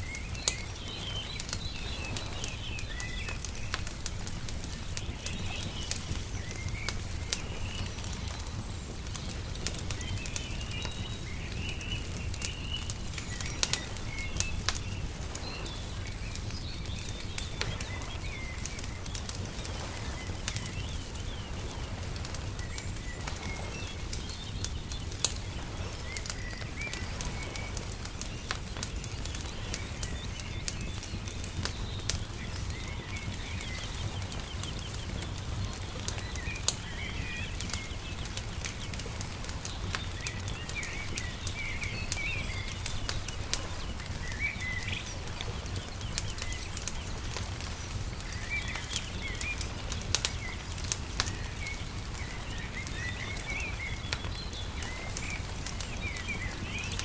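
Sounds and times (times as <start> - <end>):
small birds chirping: 0.0 - 57.0
wood fire crackling and popping: 0.0 - 57.0.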